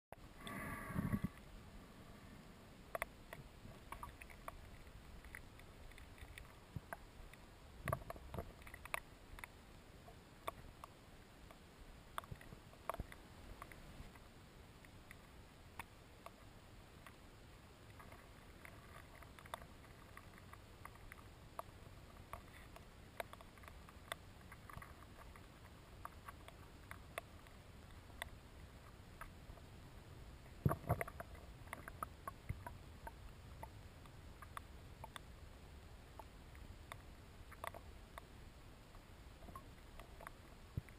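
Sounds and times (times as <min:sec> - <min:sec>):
sharp underwater clicks and knocks: 0:00.1 - 0:01.5, 0:02.8 - 0:17.2, 0:17.9 - 0:29.7, 0:30.4 - 0:35.3, 0:36.1 - 0:40.9.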